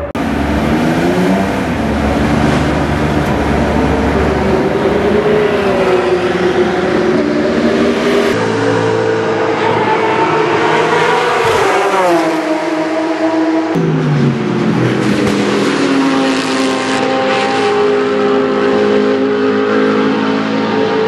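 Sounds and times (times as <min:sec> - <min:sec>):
race car engine running: 0:00.0 - 0:21.0
race cars on circuit: 0:00.0 - 0:21.0.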